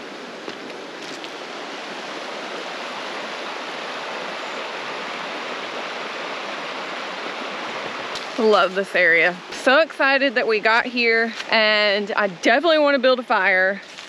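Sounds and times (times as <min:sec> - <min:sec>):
creek water rushing over rocks: 0:00.0 - 0:14.0.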